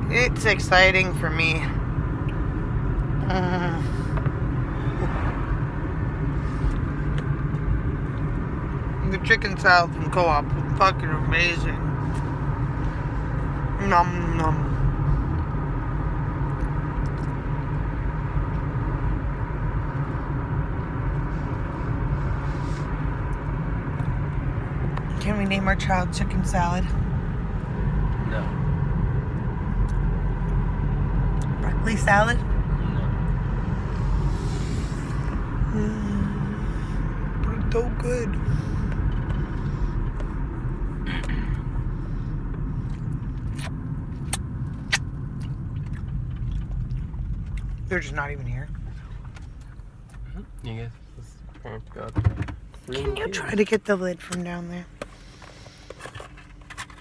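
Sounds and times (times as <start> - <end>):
car engine rumble from inside: 0.0 - 57.0.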